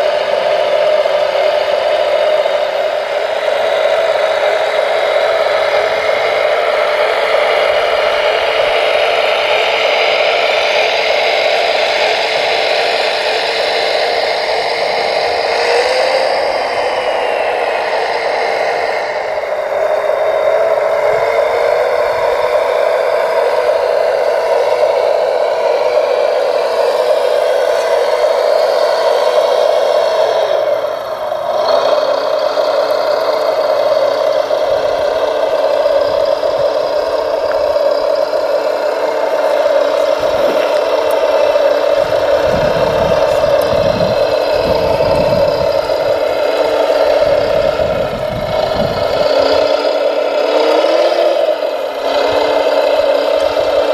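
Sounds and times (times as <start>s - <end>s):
motor and gear whine: 0.0s - 53.9s.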